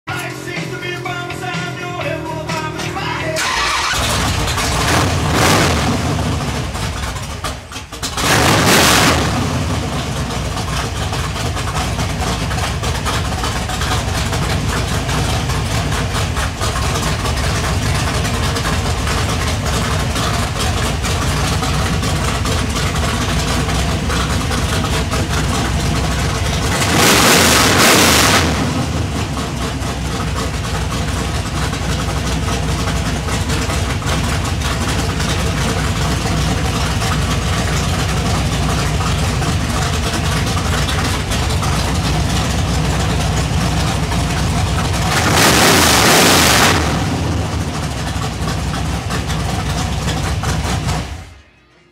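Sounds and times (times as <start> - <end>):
car engine idling and revving: 0.0 - 51.5.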